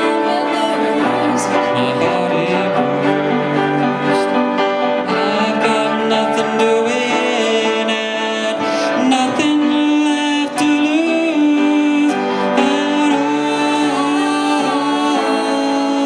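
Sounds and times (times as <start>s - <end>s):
sustained chords: 0.0s - 16.0s.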